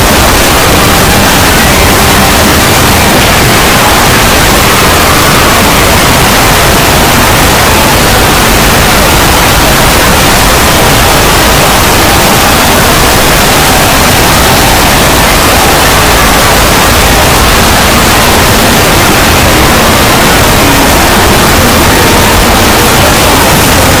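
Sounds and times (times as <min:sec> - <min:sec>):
loud distorted static noise: 0:00.0 - 0:24.0.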